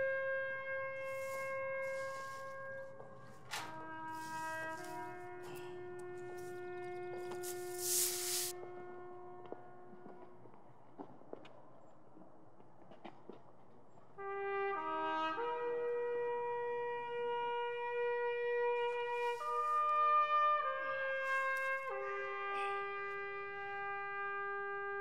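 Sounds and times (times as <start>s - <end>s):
slow wind instrument melody: 0.0s - 10.2s, 14.2s - 25.0s.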